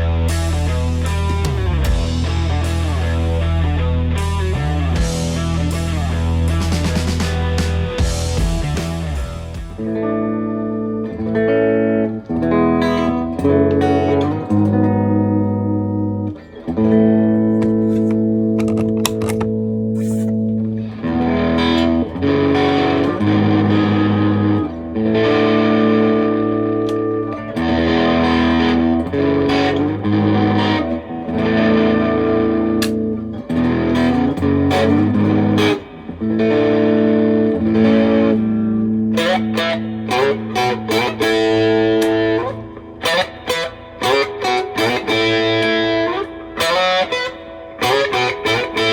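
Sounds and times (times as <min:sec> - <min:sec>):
distorted electric guitar chords: 0:00.0 - 0:48.9
picked guitar notes: 0:00.0 - 0:48.9.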